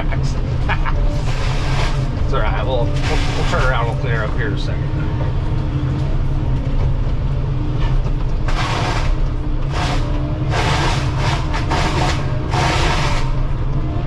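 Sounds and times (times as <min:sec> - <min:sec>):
excavator engine drone: 0:00.0 - 0:14.0.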